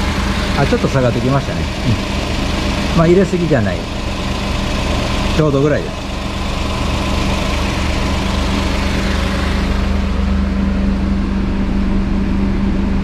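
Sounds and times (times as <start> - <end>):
air conditioning rushing: 0.0 - 13.0
small car engine idling: 0.0 - 13.0.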